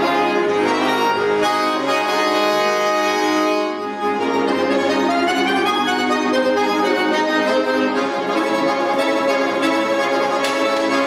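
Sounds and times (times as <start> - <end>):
button accordion chords: 0.0 - 11.0.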